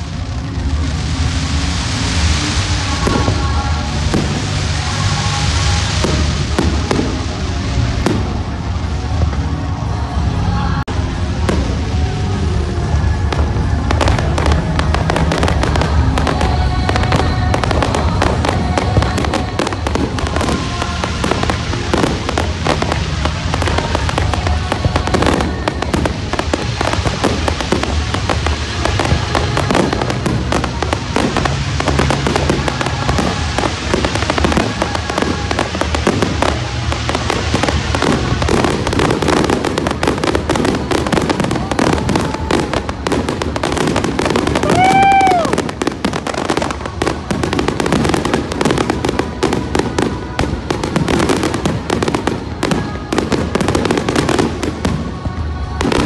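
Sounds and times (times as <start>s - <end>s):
fireworks crackling: 0.0s - 56.0s
music playing: 0.0s - 56.0s.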